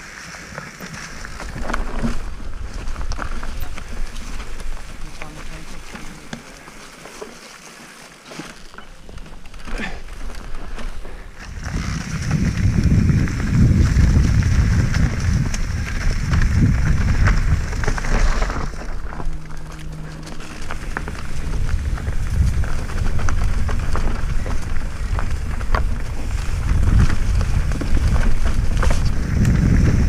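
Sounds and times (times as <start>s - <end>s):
bike tyres crunching over stones: 0.0s - 30.0s
bike knocking and rattling: 0.3s - 30.0s
wind rumbling on microphone: 0.8s - 6.3s, 9.8s - 30.0s.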